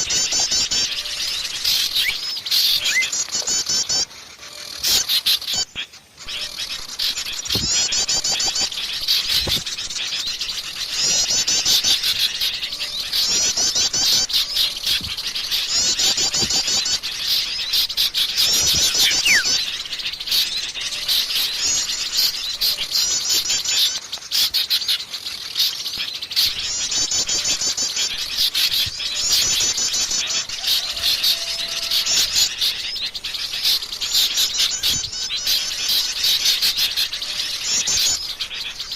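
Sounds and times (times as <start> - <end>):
rapid high bird trill: 0.0 - 38.9
songbirds chirping and chattering: 0.0 - 38.9.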